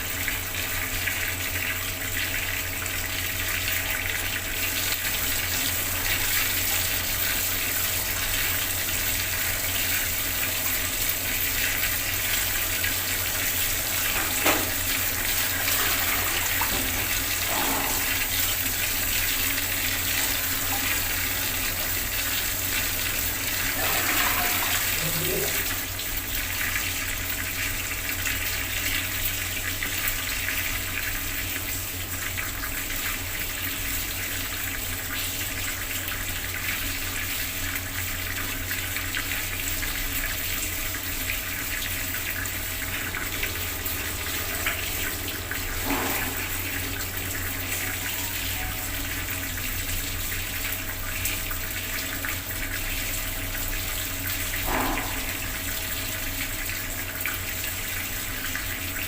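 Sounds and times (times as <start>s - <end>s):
water tap running: 0.0s - 59.0s.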